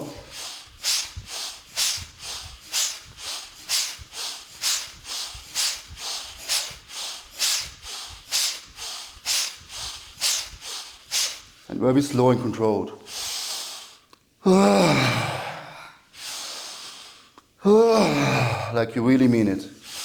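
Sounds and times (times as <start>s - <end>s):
person breathing forcefully: 0.0s - 11.7s, 13.0s - 18.8s, 19.8s - 20.0s.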